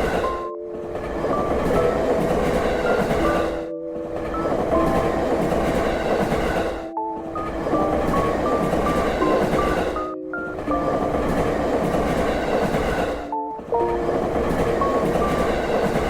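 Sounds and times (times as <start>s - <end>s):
melody of held notes: 0.0s - 15.8s
train rumble and rail clatter: 0.0s - 16.0s.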